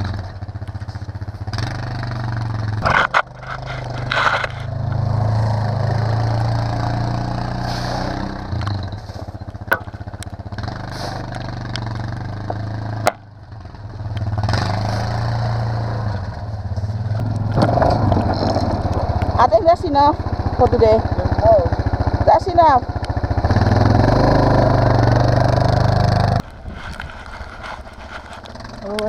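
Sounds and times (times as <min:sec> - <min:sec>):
atv engine running under load: 0:00.0 - 0:29.0.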